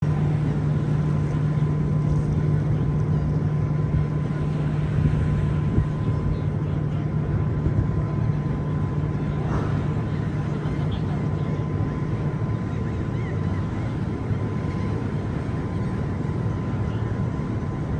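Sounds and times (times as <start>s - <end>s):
faint higher hum: 0.0s - 17.9s
ship machinery drone: 0.0s - 17.9s.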